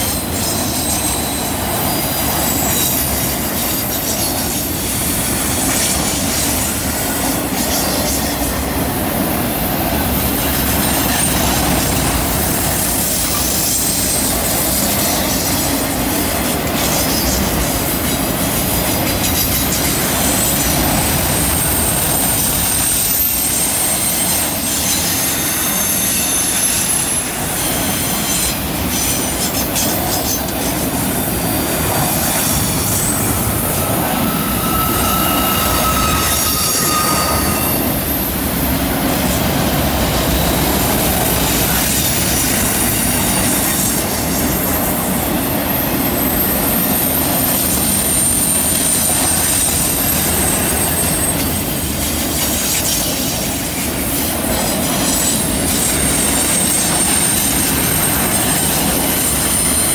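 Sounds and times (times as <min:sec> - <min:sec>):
train wheels rumbling on rail: 0:00.0 - 0:59.9
wheel flange squeals: 0:00.0 - 0:59.9.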